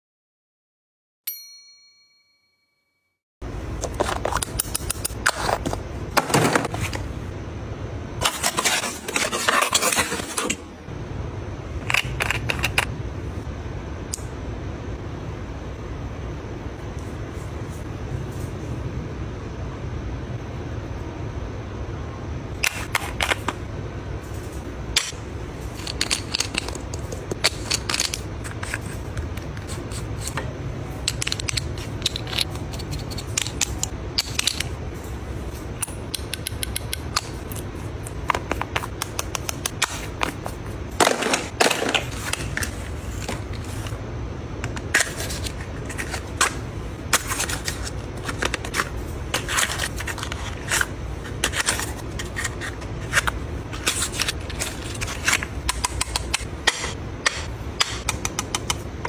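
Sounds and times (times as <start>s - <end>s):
steady low hum: 3.4s - 59.0s.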